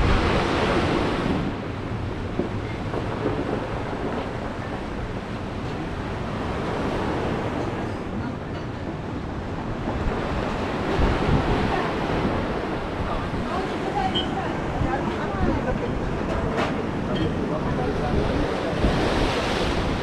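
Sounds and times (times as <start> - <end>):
sea surf breaking on rocks: 0.0 - 8.1, 8.9 - 20.0
wind buffeting microphone: 0.0 - 20.0.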